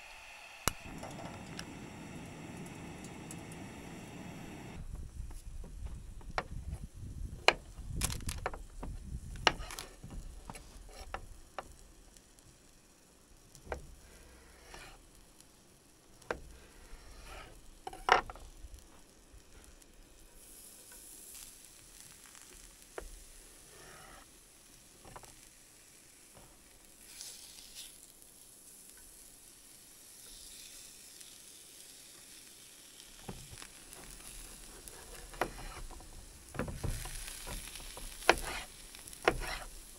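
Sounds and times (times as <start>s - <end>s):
food sizzling: 0.0s - 4.8s, 9.0s - 39.9s.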